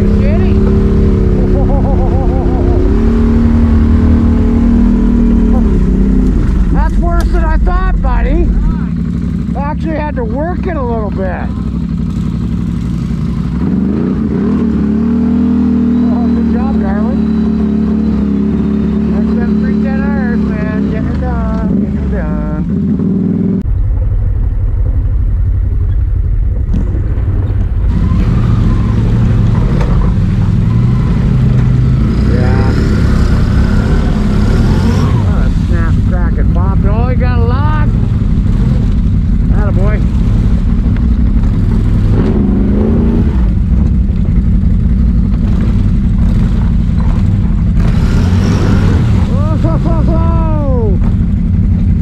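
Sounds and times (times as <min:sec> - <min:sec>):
atv engines droning: 0:00.0 - 0:52.0.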